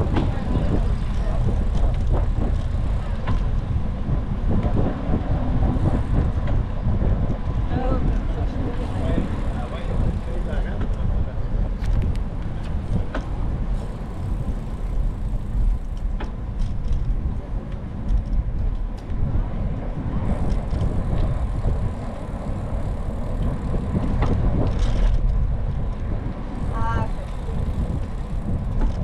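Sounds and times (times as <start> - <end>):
bicycle tyre noise: 0.0 - 29.0
wind rumble: 0.0 - 29.0.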